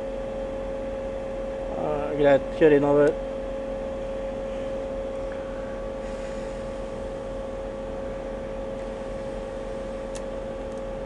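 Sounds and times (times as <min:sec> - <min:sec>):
steady mid-pitched hum: 0:00.0 - 0:11.0.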